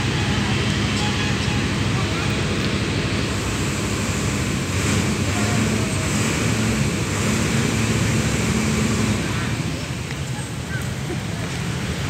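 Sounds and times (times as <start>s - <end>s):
street noise: 0.0s - 12.0s
vehicle engine hum: 0.0s - 12.0s.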